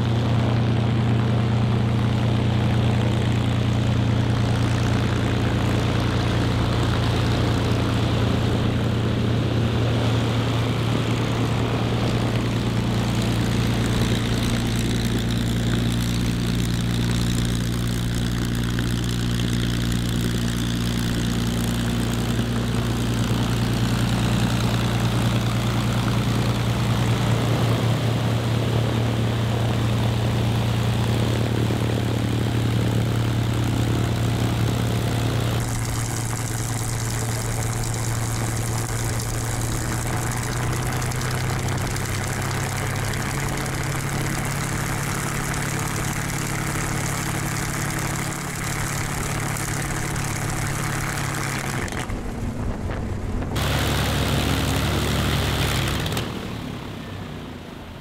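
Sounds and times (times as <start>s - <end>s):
propeller aircraft engine droning: 0.0s - 58.0s.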